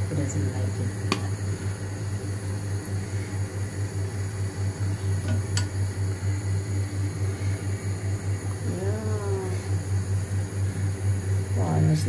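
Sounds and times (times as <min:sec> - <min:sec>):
pulsing mechanical hum: 0:00.0 - 0:12.0.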